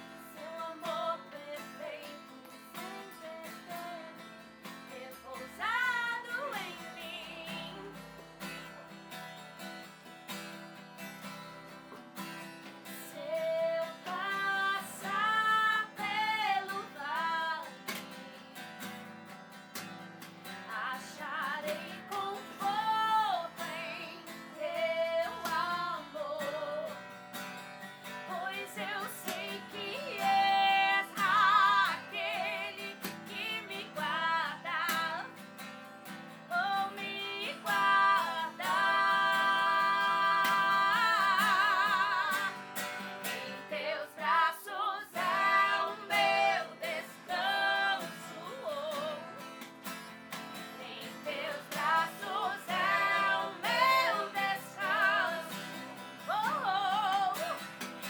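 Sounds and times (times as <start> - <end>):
woman singing: 0.0 - 8.6, 12.8 - 18.4, 20.5 - 27.1, 28.0 - 35.6, 36.3 - 49.6, 50.5 - 57.9
acoustic guitar: 0.0 - 58.0.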